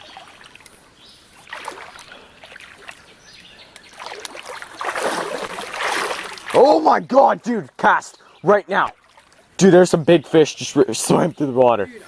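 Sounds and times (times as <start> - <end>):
creek water splashing: 0.0 - 11.8.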